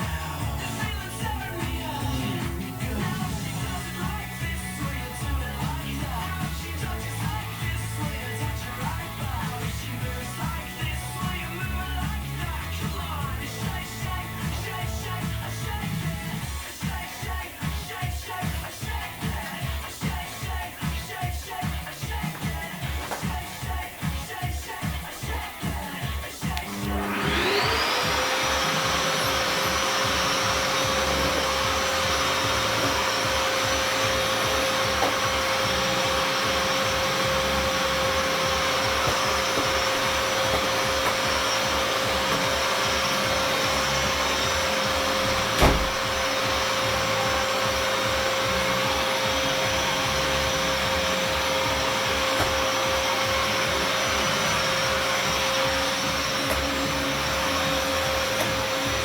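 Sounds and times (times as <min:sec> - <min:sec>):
vacuum cleaner running: 0:00.0 - 0:16.5, 0:25.2 - 0:59.0.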